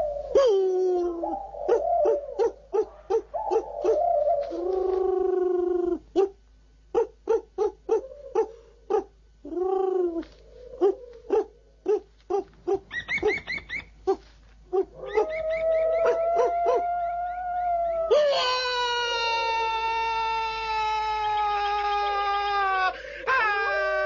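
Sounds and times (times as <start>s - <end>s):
man imitating animal calls: 2.8s - 6.4s, 7.0s - 13.4s, 14.0s - 24.0s.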